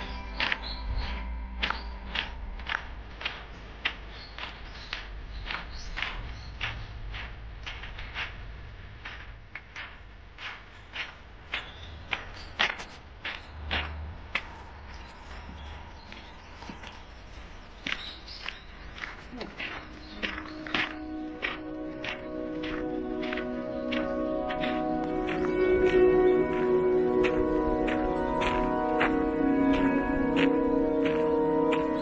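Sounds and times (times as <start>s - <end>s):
footsteps walking: 0.0s - 32.0s.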